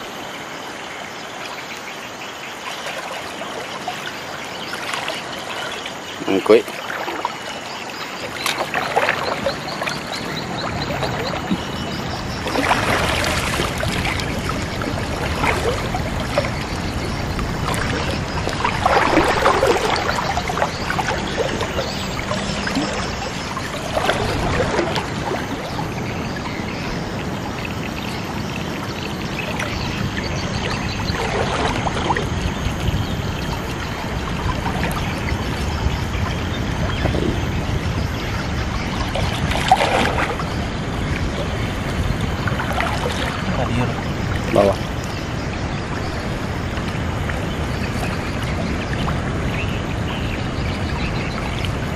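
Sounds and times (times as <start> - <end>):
river water rushing: 0.0 - 51.9
splashes in water: 2.5 - 38.0, 38.7 - 45.2.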